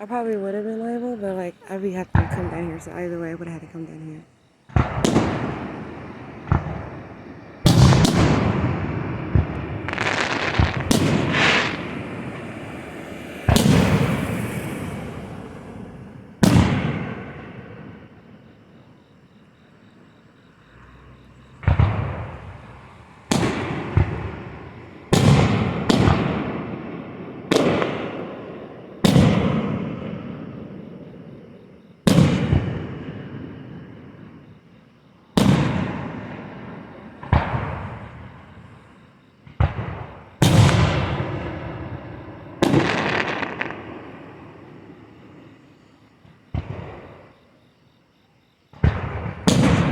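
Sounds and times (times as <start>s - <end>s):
fireworks bangs echoing: 0.5s - 18.7s, 21.5s - 34.6s, 35.4s - 47.4s, 48.7s - 49.9s.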